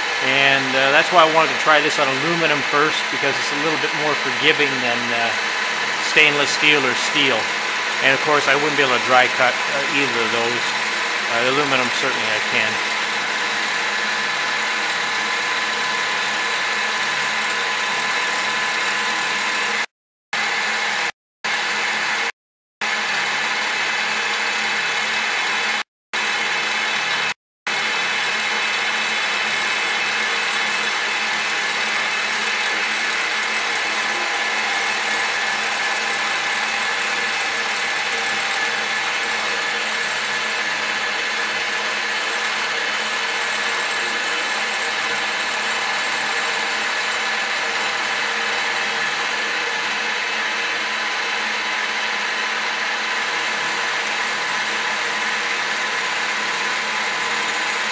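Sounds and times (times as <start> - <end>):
milling machine cutting metal: 0.0 - 57.9.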